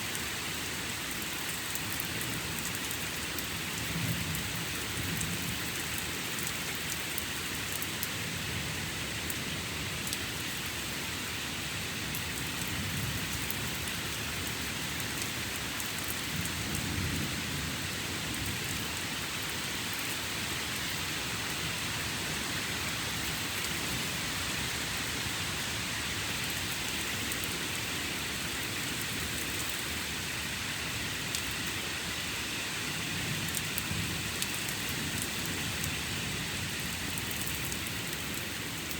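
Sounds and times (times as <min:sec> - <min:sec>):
raindrops ticking nearby: 0:00.0 - 0:11.0, 0:11.9 - 0:21.6, 0:22.4 - 0:31.9, 0:33.0 - 0:38.9
steady rain: 0:00.0 - 0:38.9.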